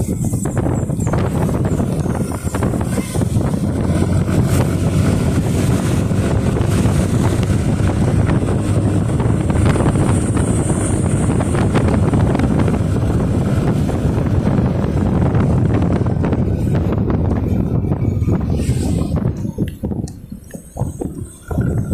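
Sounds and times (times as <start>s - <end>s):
motorcycle engine and road noise: 0.0s - 21.9s
wind buffeting microphone: 0.0s - 21.9s.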